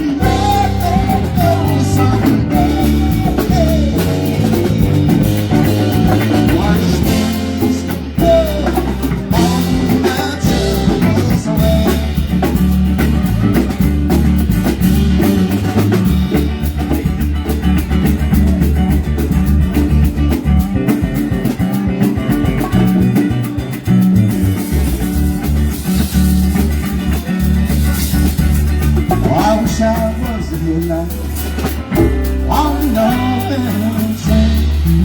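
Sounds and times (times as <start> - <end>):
drum kit: 0.0 - 35.0
electric guitar: 0.0 - 35.0
low bass notes: 0.0 - 35.0.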